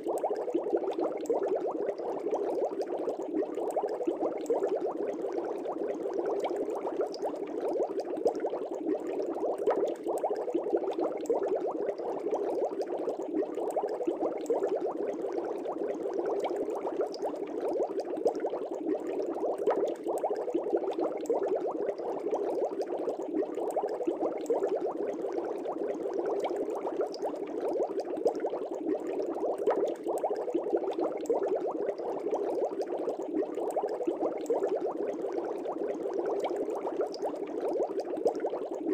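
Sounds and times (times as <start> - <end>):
air bubbles in fish tank: 0.0 - 38.9.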